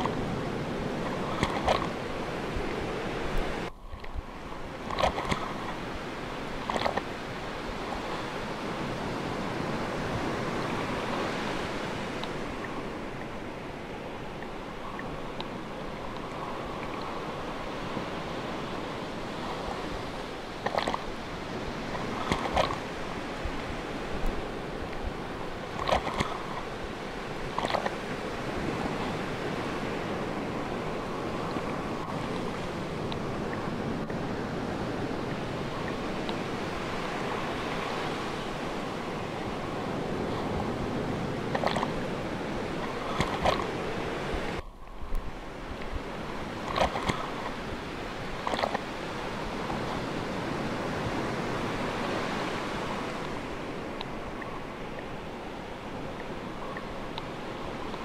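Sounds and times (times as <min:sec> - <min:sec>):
ocean waves washing on shore: 0:00.0 - 0:58.0.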